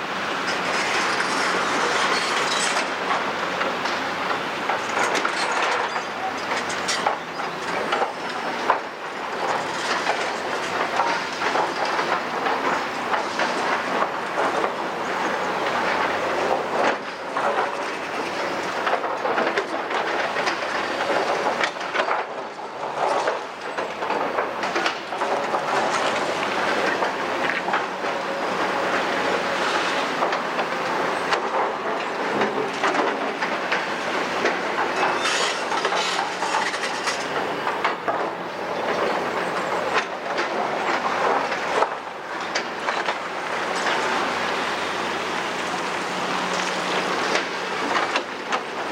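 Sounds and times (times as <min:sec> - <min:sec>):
excavator engine running: 0:00.0 - 0:48.9
debris clattering and scraping: 0:00.5 - 0:03.0, 0:04.7 - 0:14.8, 0:16.1 - 0:28.2, 0:31.2 - 0:48.9.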